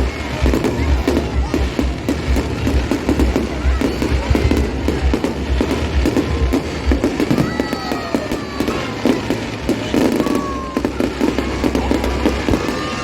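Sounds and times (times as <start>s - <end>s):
firework bangs and crackles: 0.0s - 13.0s
whistling fireworks: 0.0s - 13.0s.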